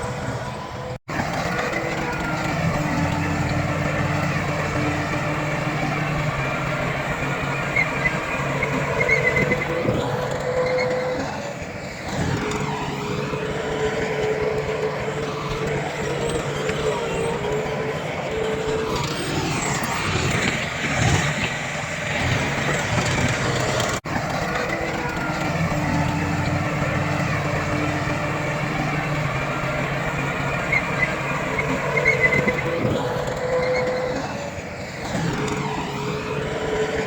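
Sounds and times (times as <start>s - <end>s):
diesel engines of heavy machinery: 0.0s - 37.0s.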